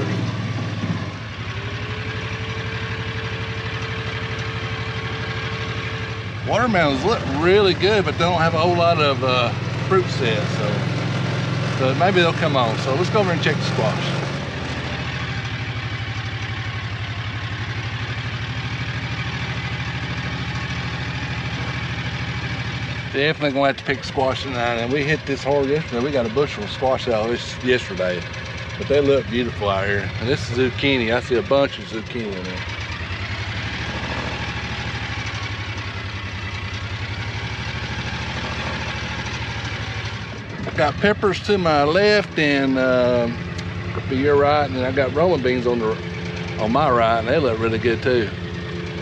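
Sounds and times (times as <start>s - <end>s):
small engine running at low revs: 0.0s - 49.0s.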